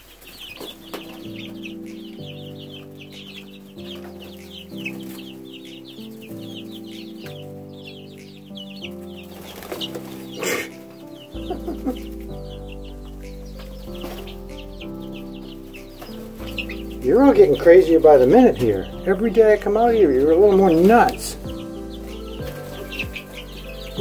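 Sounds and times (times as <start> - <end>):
background music with slow chords: 0.0 - 24.0
chicks peeping: 0.0 - 24.0.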